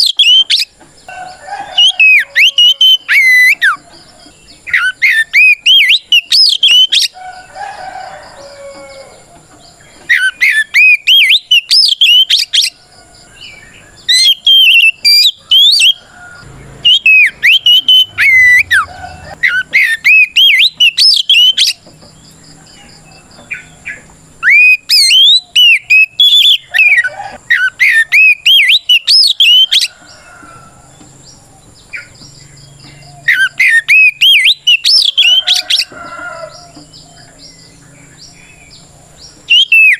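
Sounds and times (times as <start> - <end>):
magpie-robin whistled song: 0.0 - 1.1, 1.7 - 7.2, 8.6 - 12.8, 13.4 - 16.1, 16.8 - 21.9, 22.6 - 30.6, 31.8 - 39.9.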